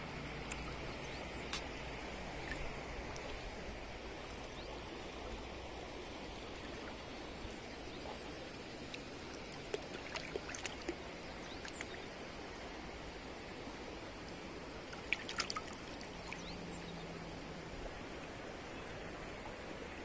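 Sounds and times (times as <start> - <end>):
river flowing over pebbles: 0.0 - 20.0.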